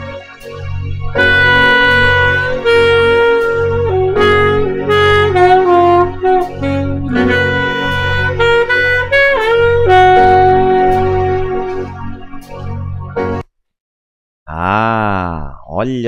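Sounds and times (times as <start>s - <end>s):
backing accompaniment: 0.0s - 13.4s
saxophone melody: 0.0s - 13.4s.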